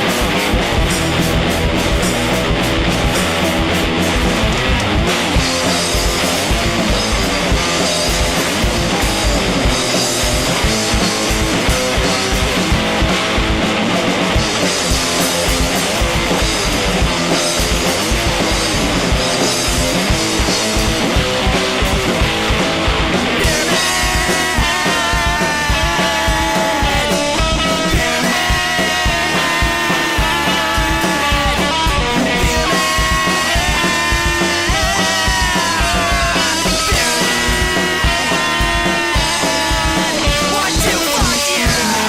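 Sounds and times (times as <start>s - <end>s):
bass guitar: 0.0s - 42.0s
distorted electric guitar: 0.0s - 42.0s
drum kit: 0.0s - 42.0s.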